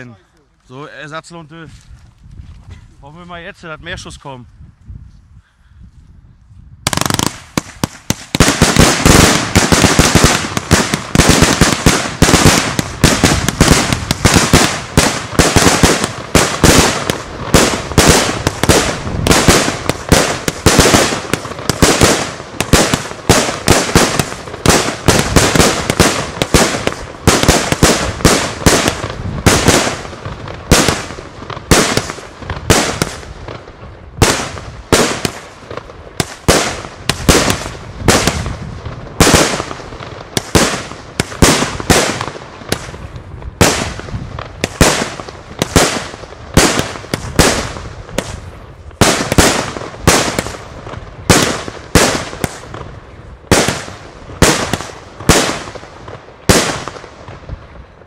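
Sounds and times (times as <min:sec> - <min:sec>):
fireworks firing sharp bangs: 0:06.8 - 0:58.0.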